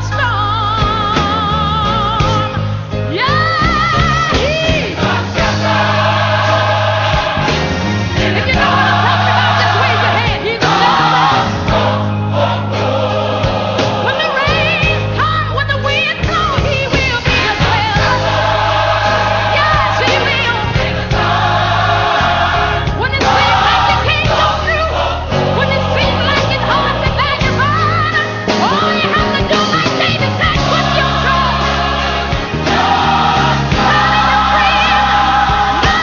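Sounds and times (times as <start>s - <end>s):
band with steady bass line: 0.0s - 36.0s
choir singing gospel music: 0.0s - 36.0s.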